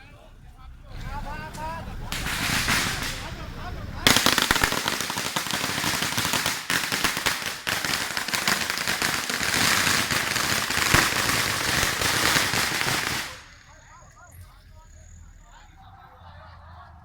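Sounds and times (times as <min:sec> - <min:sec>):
firecrackers crackling: 0:00.0 - 0:14.2.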